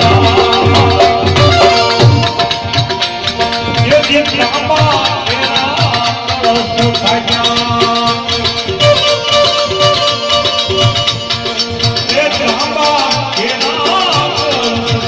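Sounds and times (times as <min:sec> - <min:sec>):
sliding melody line: 0:00.0 - 0:15.0.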